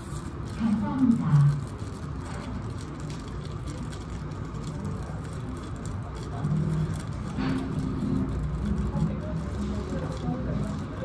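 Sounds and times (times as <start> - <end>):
low room rumble: 0.0 - 11.0
faint voices: 0.4 - 11.0.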